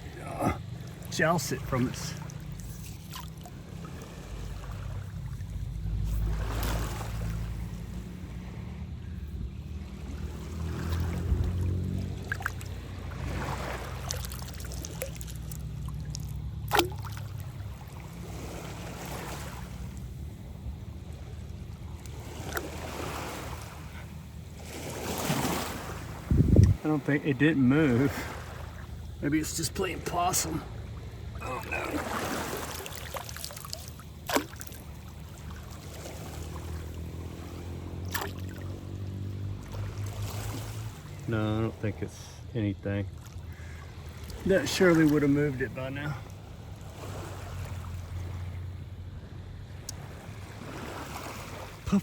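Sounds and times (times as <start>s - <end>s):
water lapping among rocks: 0.0s - 8.9s, 9.7s - 26.8s, 27.7s - 41.3s, 43.1s - 49.1s, 49.8s - 52.0s
low steady hum: 0.0s - 50.5s
low steady rumble: 0.0s - 50.7s
seawater trickling and sloshing: 0.0s - 52.0s.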